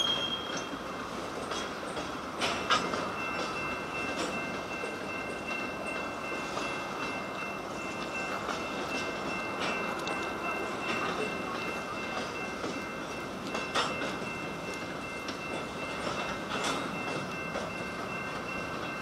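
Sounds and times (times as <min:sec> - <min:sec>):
train wheels rumbling on rail: 0:00.0 - 0:19.0
wheels clacking over rail joints: 0:00.0 - 0:19.0.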